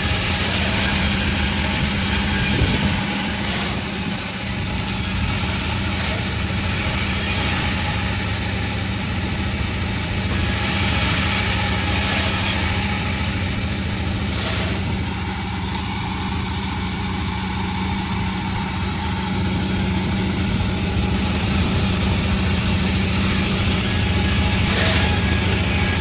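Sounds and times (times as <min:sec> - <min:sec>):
sawmill machinery humming: 0:00.0 - 0:26.0.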